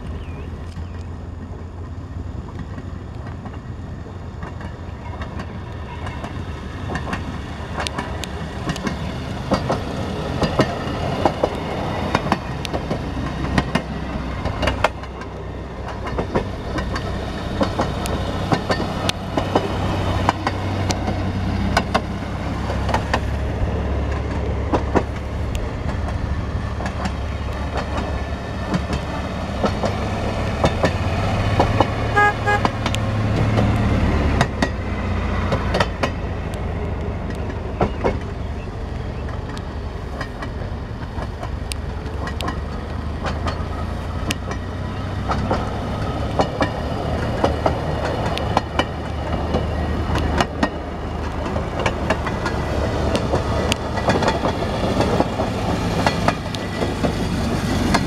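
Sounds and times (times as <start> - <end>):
rail motorcar engines humming: 0.0 - 58.0
wheels clicking over rail joints: 0.0 - 58.0.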